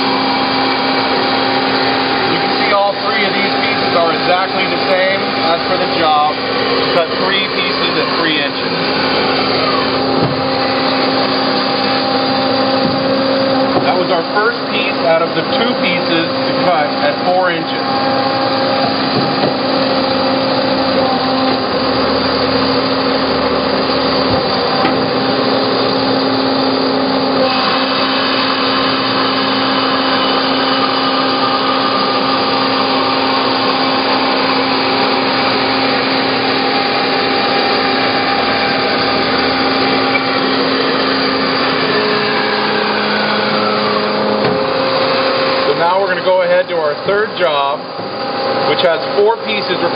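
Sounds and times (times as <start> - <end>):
bandsaw cutting metal: 0.0 - 49.9
falling whine: 0.0 - 49.9.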